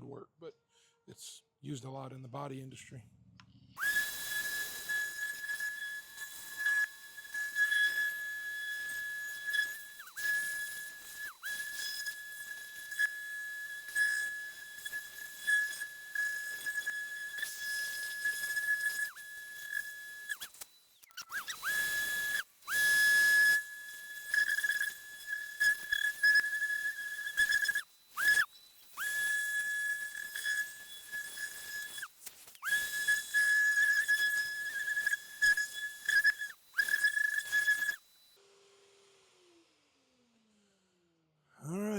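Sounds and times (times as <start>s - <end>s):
orbital sander whining: 3.8s - 40.4s.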